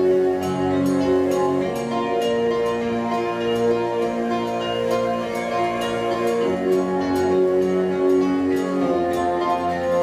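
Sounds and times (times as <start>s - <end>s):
doom metal band playing: 0.0s - 10.0s.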